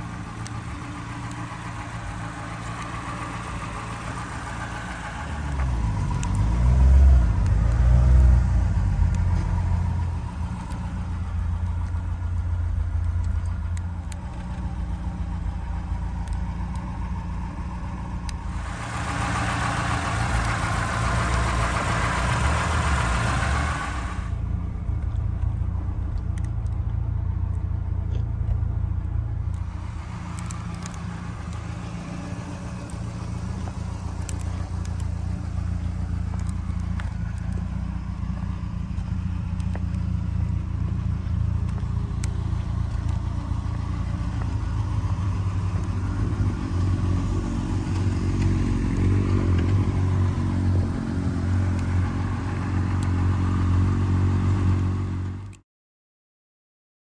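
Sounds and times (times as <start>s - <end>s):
car engine idling: 0.0s - 55.6s.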